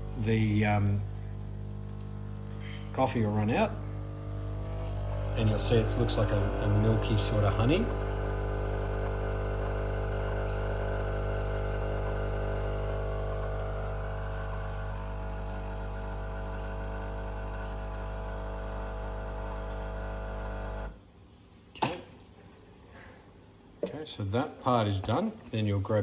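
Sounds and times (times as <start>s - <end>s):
espresso machine pump humming: 0.0s - 21.0s.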